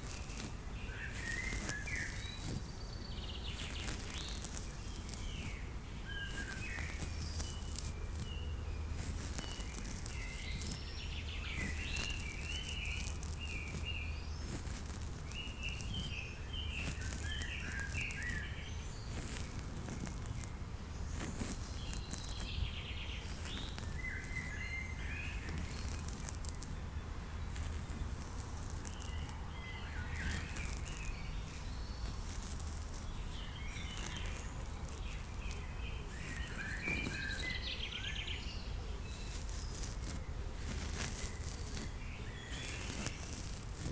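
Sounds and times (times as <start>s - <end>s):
small birds chirping: 0.0s - 43.9s
steady outdoor background: 0.0s - 43.9s.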